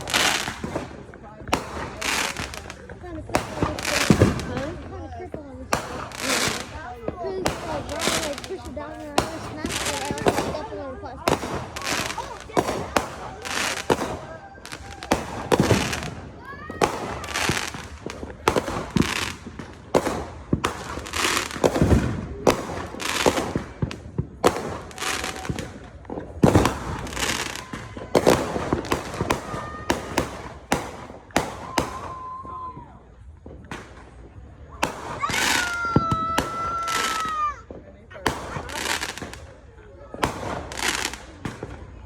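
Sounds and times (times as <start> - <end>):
fireworks bangs and pops: 0.0 - 42.0.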